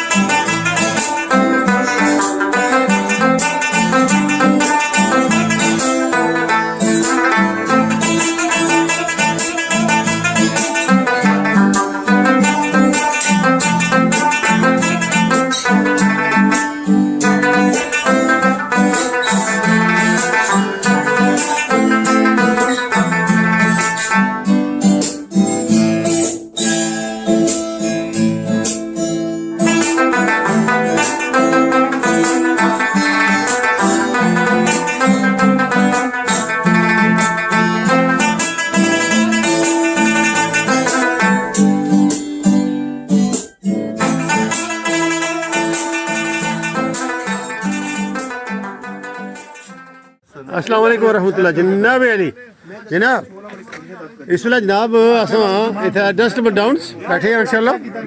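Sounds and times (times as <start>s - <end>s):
plucked guitar background music: 0.0s - 52.0s, 54.4s - 58.0s.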